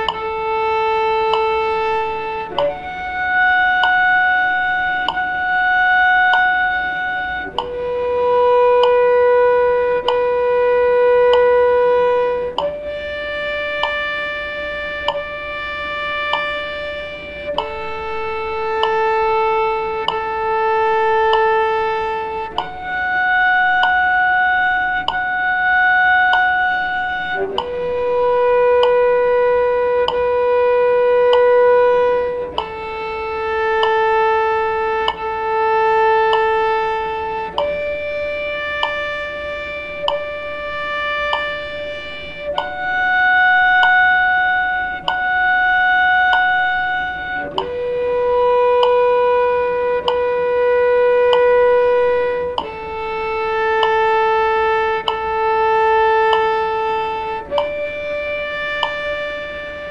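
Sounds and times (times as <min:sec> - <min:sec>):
cello playing long notes: 0:00.0 - 0:59.9
light ticking: 0:00.0 - 0:59.9.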